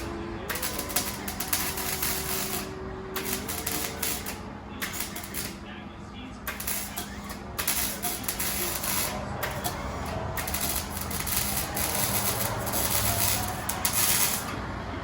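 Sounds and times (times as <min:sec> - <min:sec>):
power tool rattling: 0:00.0 - 0:05.6, 0:06.5 - 0:14.6.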